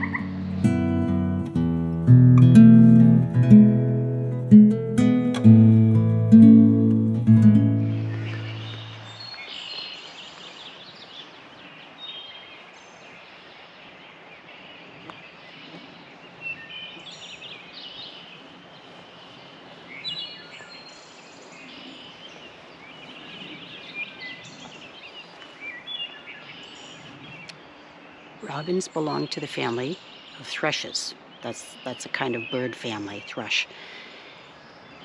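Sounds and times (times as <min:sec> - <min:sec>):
songbirds chirping: 0:00.0 - 0:35.0
steady outdoor hiss: 0:00.0 - 0:35.0.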